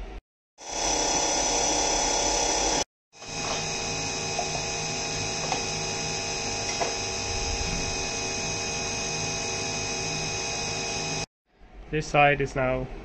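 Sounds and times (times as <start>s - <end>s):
milling spindle whining: 0.6s - 11.3s.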